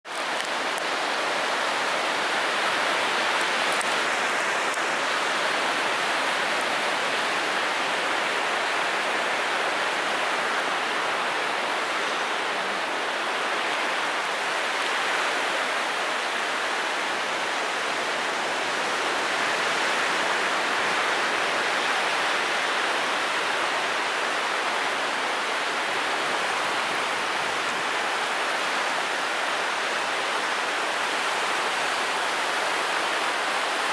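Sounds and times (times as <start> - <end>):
waves breaking on beach: 0.1 - 33.9.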